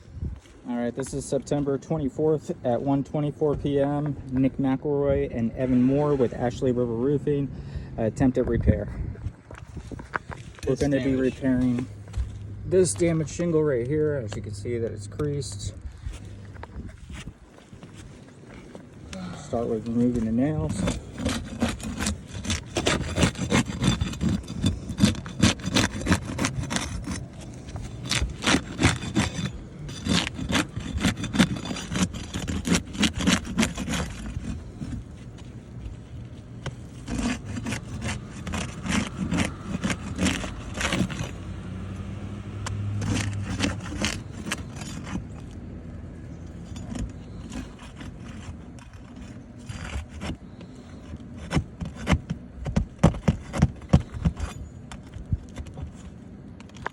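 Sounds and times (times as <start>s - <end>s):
tool scraping and knocking on shingle: 0.4s - 7.4s, 8.2s - 56.9s.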